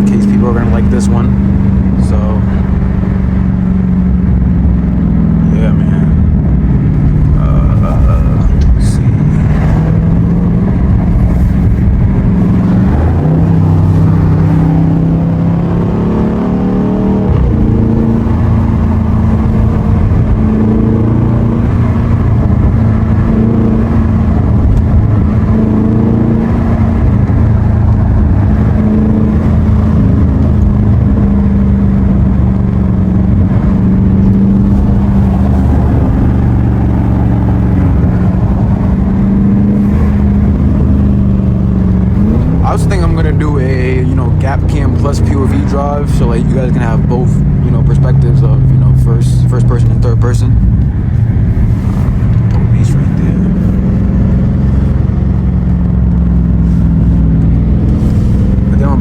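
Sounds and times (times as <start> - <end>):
car engine droning from inside cabin: 0.0 - 59.0.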